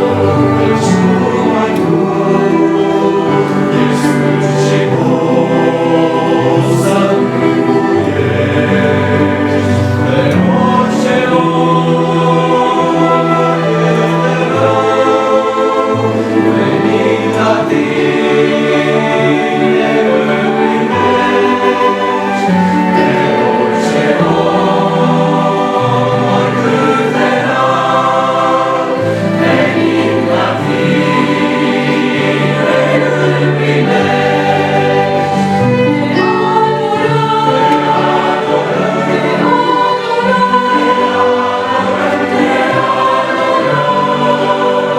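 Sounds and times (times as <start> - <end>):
choir singing worship music: 0.0 - 44.9.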